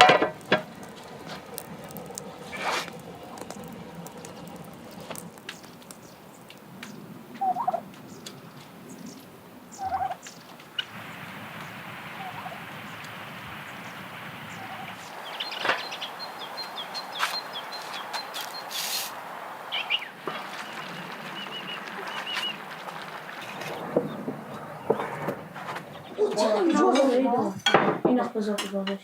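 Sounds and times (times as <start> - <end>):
steady hiss: 0.0 - 27.3
birds chirping: 0.0 - 28.6.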